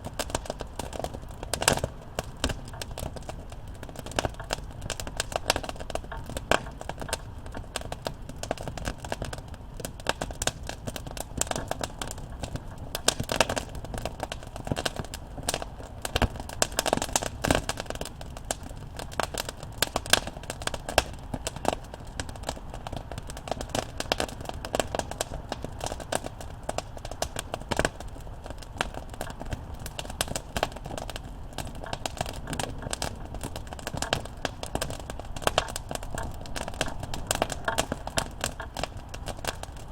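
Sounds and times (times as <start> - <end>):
campfire crackling and popping: 0.0 - 39.9
low rumble of burning: 0.0 - 39.9.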